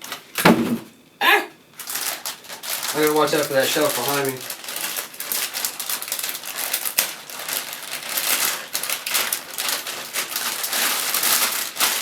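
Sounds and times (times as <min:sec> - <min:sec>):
packaging crinkling and rustling: 0:01.7 - 0:12.0.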